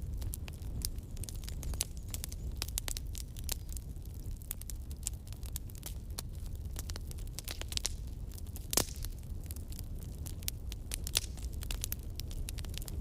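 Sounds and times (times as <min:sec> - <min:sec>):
campfire crackling and popping: 0:00.0 - 0:13.0
fire low rumble: 0:00.0 - 0:13.0.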